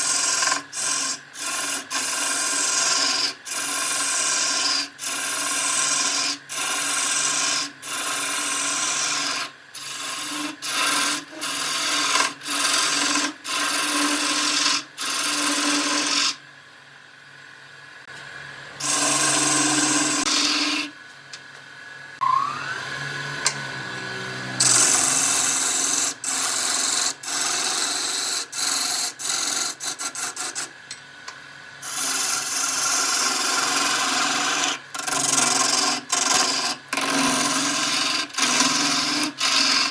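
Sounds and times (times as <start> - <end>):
lathe whine: 0.0 - 16.4, 18.7 - 21.0, 22.2 - 30.7, 31.8 - 39.9
tool scraping spinning wood: 0.0 - 16.4, 18.8 - 21.0, 24.6 - 30.8, 31.8 - 39.9.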